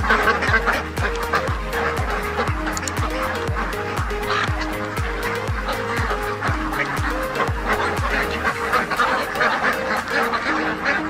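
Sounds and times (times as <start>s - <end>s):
background music with kick beat: 0.0s - 11.0s
ducks quacking: 0.0s - 11.0s.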